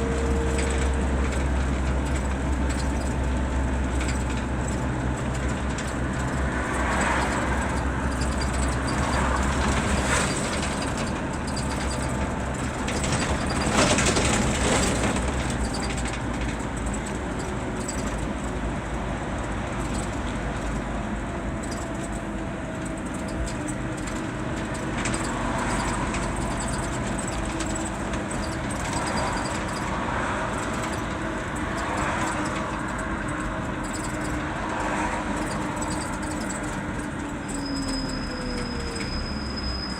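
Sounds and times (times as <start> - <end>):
bus diesel engine running: 0.0 - 39.9
road and tyre noise: 0.0 - 39.9.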